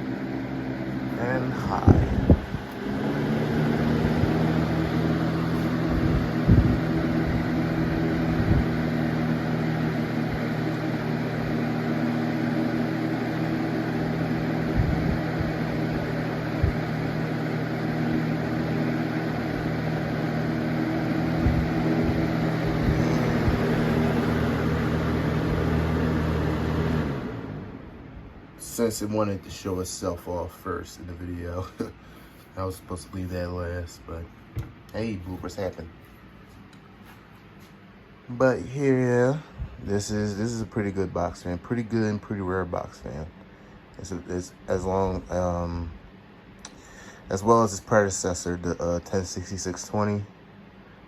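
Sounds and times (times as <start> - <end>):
box fan running: 0.0 - 51.0.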